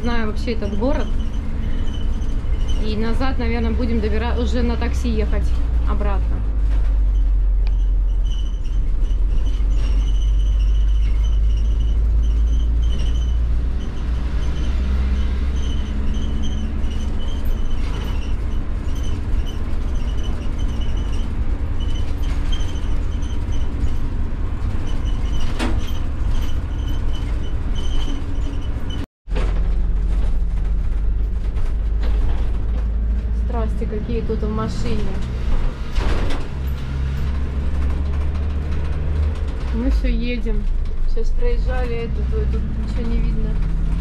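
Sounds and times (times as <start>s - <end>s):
engine and road rumble: 0.0s - 44.0s.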